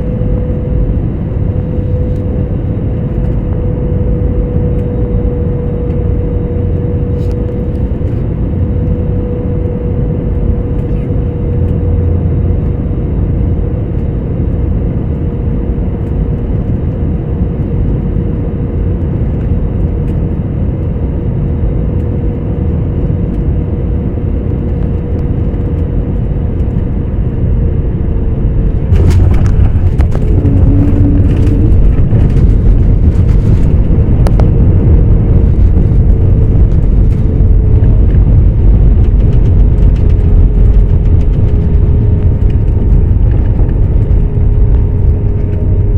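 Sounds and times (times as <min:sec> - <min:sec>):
airplane cabin rush and engine hum: 0:00.0 - 0:45.9
heavy runway rumble: 0:00.0 - 0:45.9.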